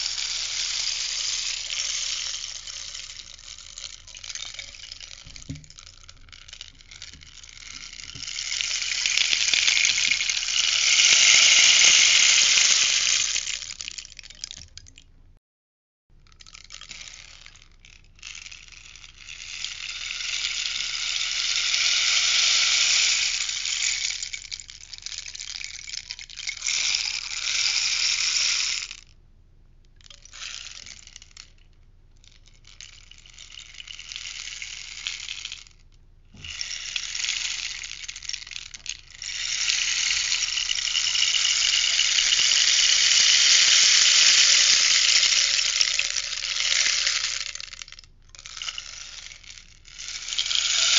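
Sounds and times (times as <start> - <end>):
rainstick beads trickling: 0.0 - 15.0, 16.3 - 29.1, 30.0 - 50.9.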